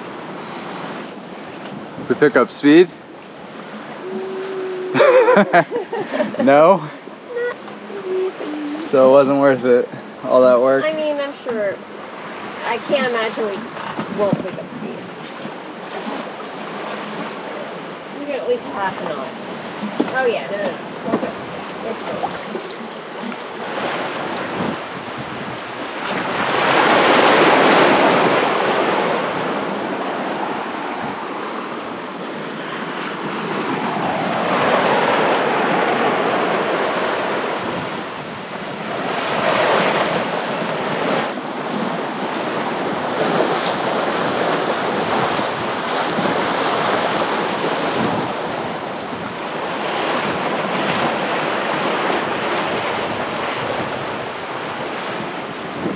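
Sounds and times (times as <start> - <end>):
water splashing along hull: 0.0 - 55.9
wind buffeting microphone: 0.0 - 55.9.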